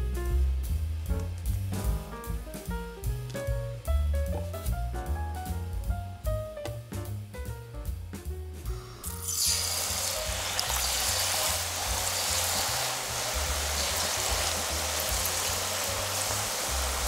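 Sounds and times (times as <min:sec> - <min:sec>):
deep frying sizzle in oil: 0:00.0 - 0:04.7, 0:07.9 - 0:17.0
background music with bass line: 0:00.0 - 0:17.0.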